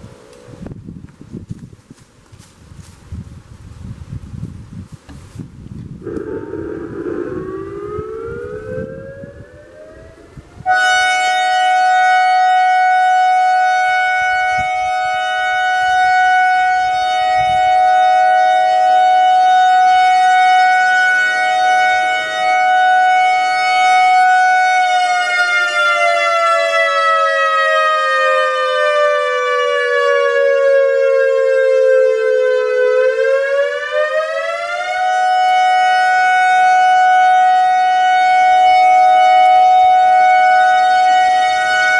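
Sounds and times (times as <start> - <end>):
electronic warning siren two-note tone: 6.0 - 41.9.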